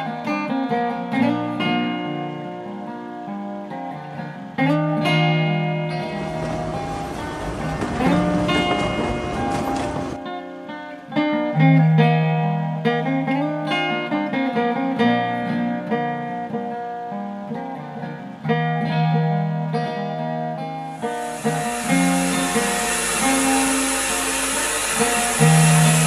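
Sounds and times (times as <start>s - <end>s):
acoustic folk guitar: 0.0s - 26.0s.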